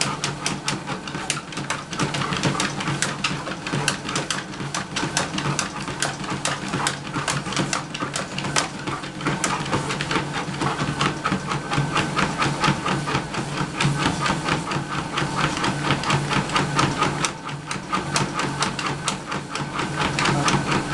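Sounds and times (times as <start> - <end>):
dog paws striking treadmill belt: 0.0 - 20.9
treadmill humming: 0.0 - 20.9.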